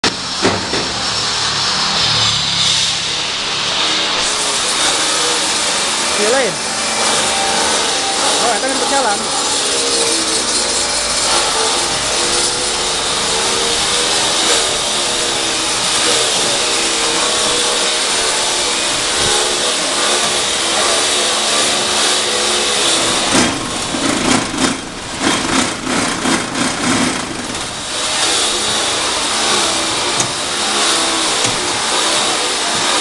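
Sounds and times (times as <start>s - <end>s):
machine knocks and surges: 0.0s - 33.0s
press machine droning: 0.0s - 33.0s.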